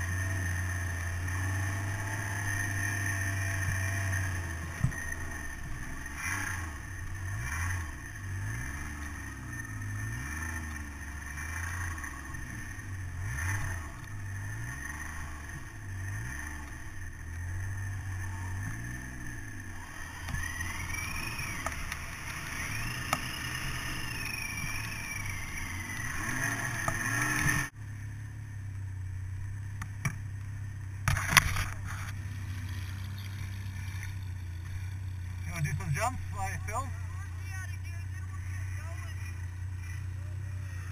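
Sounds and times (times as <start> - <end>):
snowmobile engine revving: 0.0 - 28.1, 29.4 - 40.9.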